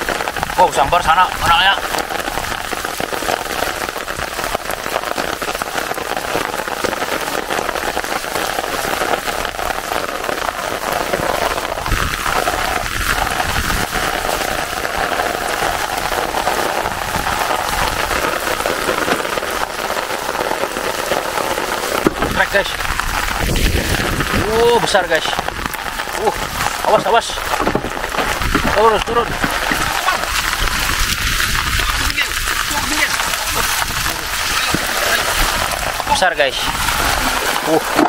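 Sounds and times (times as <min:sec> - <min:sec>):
heavy rain on water: 0:00.0 - 0:38.0.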